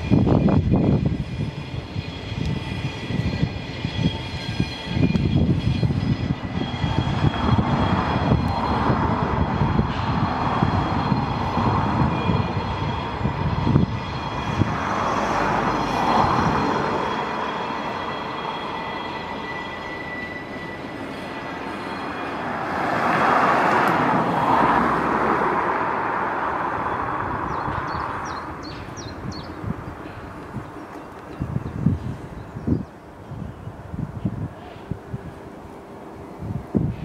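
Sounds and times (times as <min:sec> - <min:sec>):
train rolling on rails: 0:00.0 - 0:37.0.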